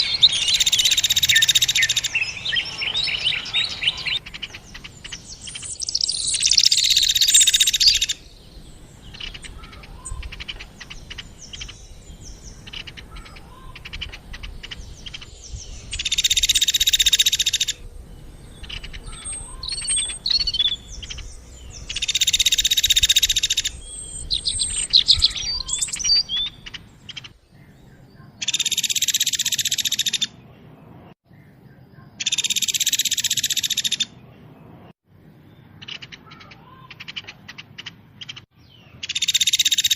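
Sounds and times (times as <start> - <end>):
songbird trilling and chirping: 0.0 - 30.6, 31.3 - 34.8, 35.5 - 39.9.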